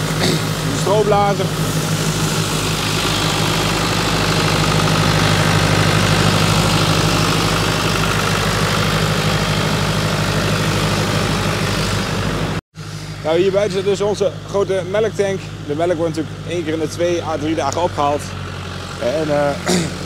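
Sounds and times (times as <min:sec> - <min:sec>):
straw blower rushing: 0:00.0 - 0:20.0
tractor engine running: 0:00.0 - 0:20.0.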